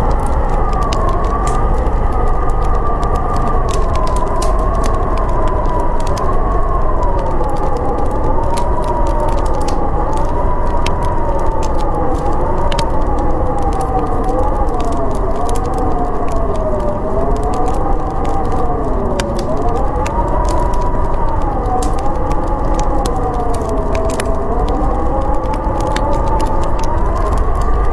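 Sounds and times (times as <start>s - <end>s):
howling wind: 0.0s - 27.9s
wood fire crackling: 0.0s - 27.9s.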